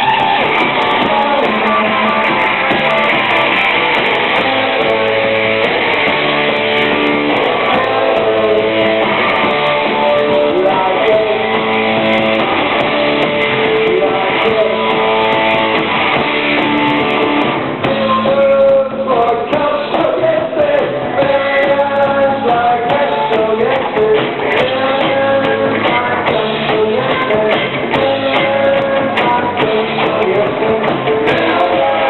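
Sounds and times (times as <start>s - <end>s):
rock band playing: 0.0s - 32.0s
strummed electric guitars: 0.0s - 32.0s.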